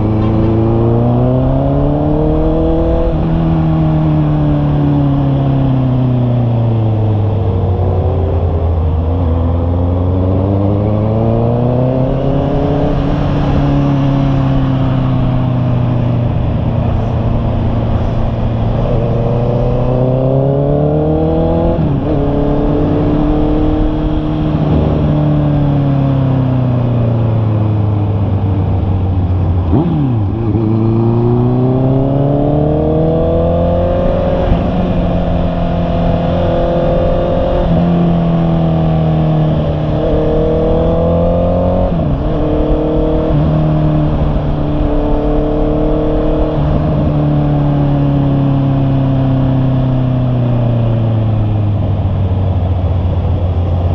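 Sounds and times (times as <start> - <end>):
motorcycle engine running: 7.0 - 53.9.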